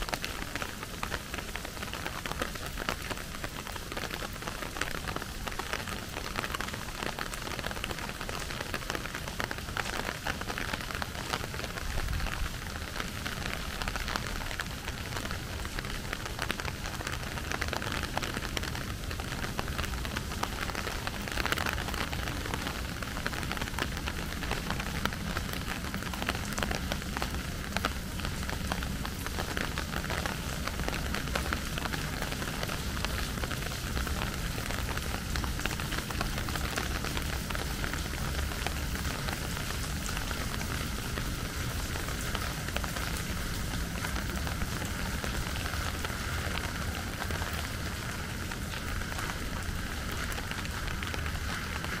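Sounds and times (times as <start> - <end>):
rain pattering on hard surfaces: 0.0 - 52.0.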